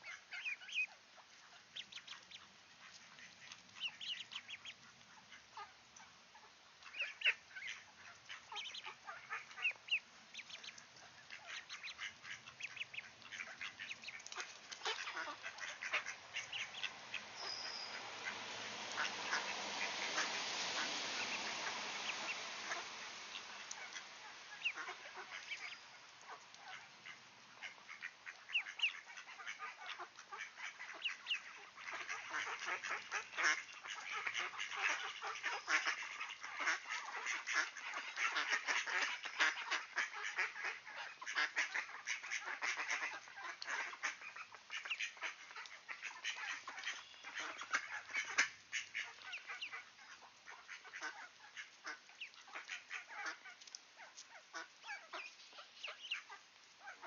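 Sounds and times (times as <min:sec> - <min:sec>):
ducklings peeping: 0:00.0 - 0:57.0.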